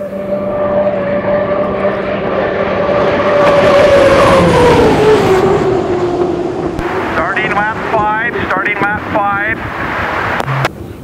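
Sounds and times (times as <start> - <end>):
turbine engine whine and roar: 0.0 - 11.0.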